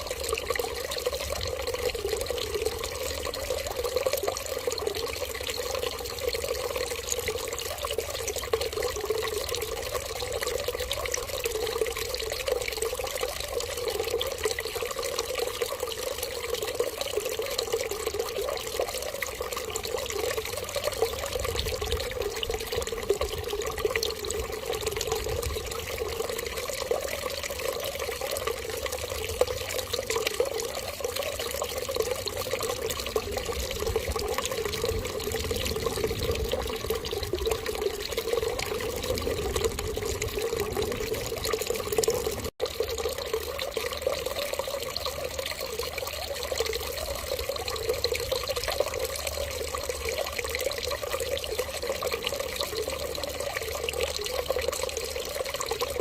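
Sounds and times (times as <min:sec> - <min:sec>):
running water pouring: 0:00.0 - 0:56.0.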